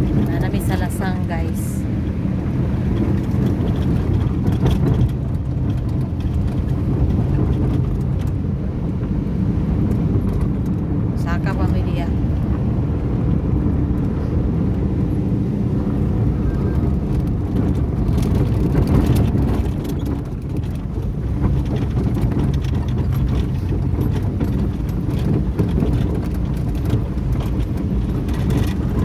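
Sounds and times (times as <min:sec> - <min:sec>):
engine rumbling: 0:00.0 - 0:29.0.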